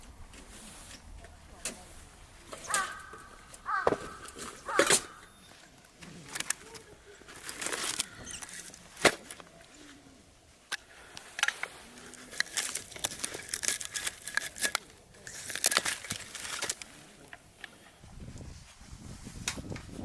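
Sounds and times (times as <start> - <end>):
crinkling and rustling: 0.0 - 20.0.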